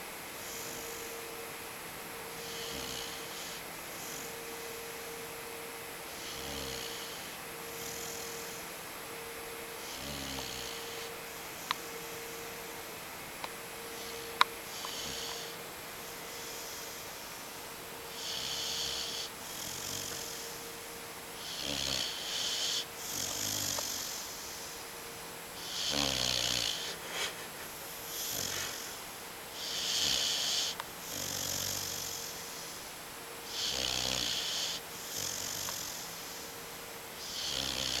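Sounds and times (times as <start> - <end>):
puppy snoring: 0.4 - 1.4, 2.3 - 5.2, 6.0 - 8.8, 9.7 - 12.6, 13.4 - 24.9, 25.6 - 36.6, 37.2 - 38.0.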